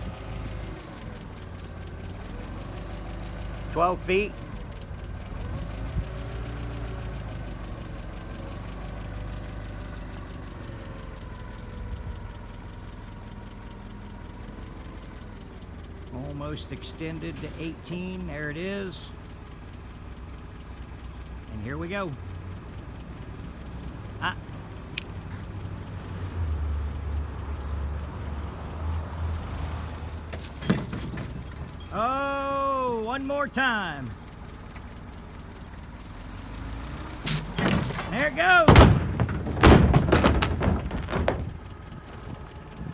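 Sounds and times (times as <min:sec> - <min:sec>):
engine humming: 0:00.0 - 0:42.9.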